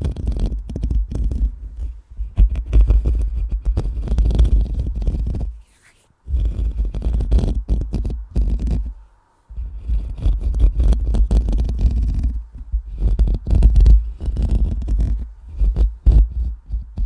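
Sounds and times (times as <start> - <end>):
microphone being scratched: 0.0 - 17.0.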